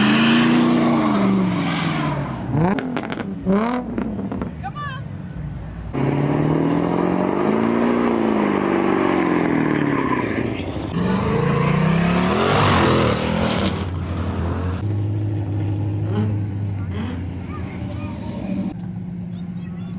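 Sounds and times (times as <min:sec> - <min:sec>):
car engine revving: 0:00.0 - 0:04.5, 0:05.9 - 0:18.8.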